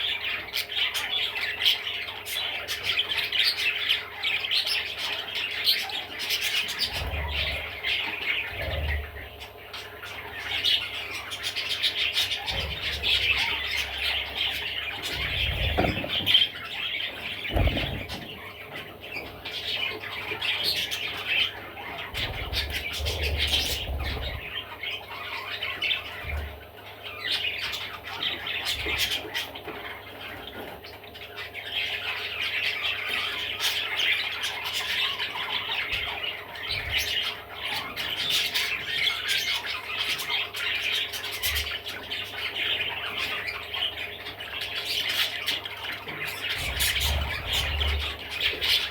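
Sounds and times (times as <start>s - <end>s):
budgerigar chattering and warbling: 0.0s - 48.9s.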